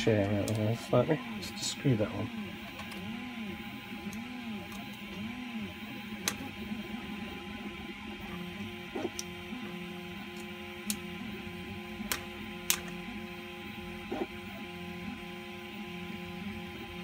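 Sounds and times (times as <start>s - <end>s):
three d printer motors humming: 0.0s - 17.0s.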